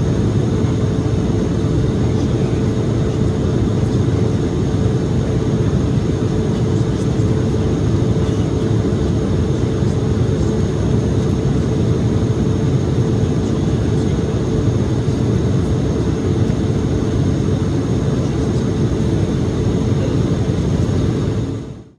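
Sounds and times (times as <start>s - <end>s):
jet engine and airflow rumble: 0.0s - 21.9s.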